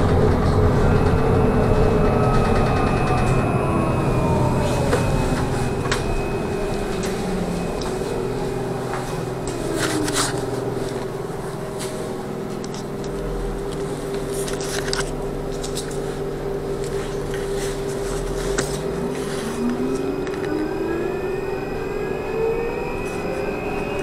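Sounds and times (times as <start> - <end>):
road rumble: 0.0 - 24.0
trolleybus electric hum: 0.0 - 24.0
whine gliding down in pitch: 0.0 - 24.0.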